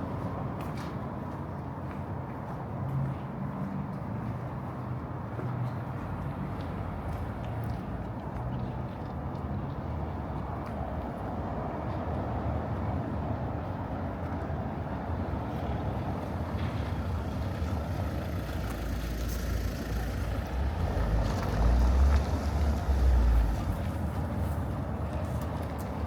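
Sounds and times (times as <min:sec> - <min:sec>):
street ambience: 0:00.0 - 0:26.0.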